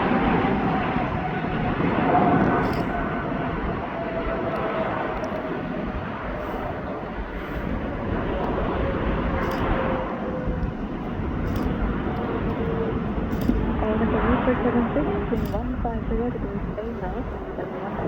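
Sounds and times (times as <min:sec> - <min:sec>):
jet engines passing with whine: 0:00.0 - 0:18.0.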